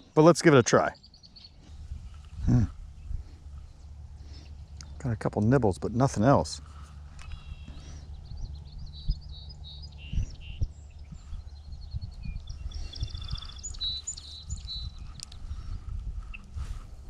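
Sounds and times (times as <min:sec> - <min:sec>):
songbirds chirping and singing: 0:00.0 - 0:17.0
steady low rumble: 0:00.0 - 0:17.0.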